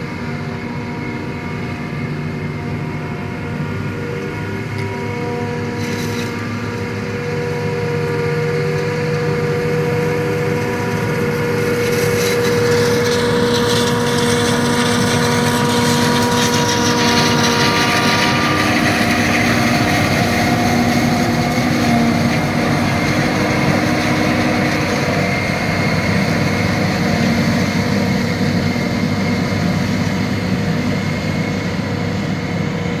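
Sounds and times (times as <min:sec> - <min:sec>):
forage harvester running: 0:00.0 - 0:33.0
tractor engine: 0:00.0 - 0:33.0.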